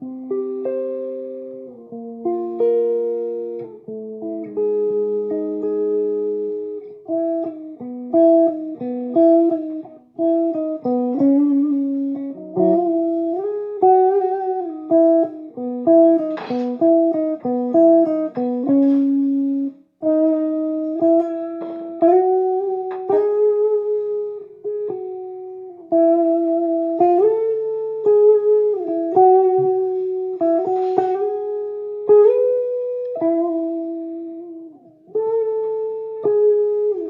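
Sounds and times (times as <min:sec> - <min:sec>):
clean electric guitar melody: 0:00.0 - 0:37.0.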